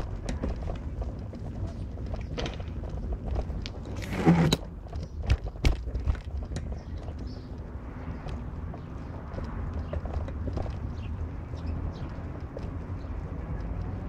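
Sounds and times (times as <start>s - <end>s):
knocks and rattles: 0.0s - 13.6s
car road rumble: 0.0s - 14.0s.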